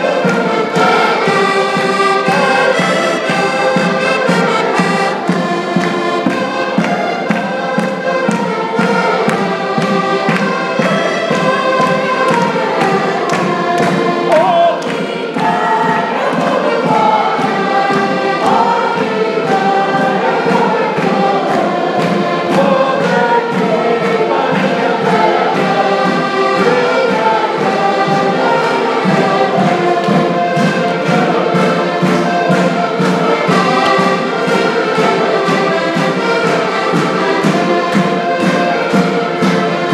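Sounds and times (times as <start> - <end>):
button accordions playing folk tune: 0.0 - 39.9
group of people singing: 0.0 - 39.9
people clapping in time: 0.0 - 39.9.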